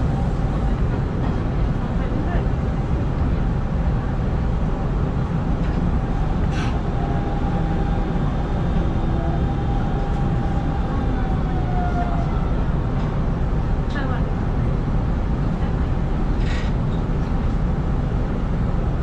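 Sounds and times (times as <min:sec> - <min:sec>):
faint train whine: 0:00.0 - 0:18.8
train wheels rumbling on rails: 0:00.0 - 0:19.0.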